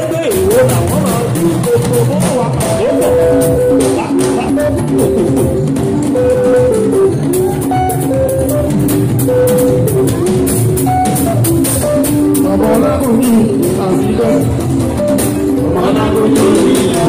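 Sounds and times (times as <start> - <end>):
drums and percussion beat: 0.0 - 17.0
melodic held notes: 0.0 - 17.0.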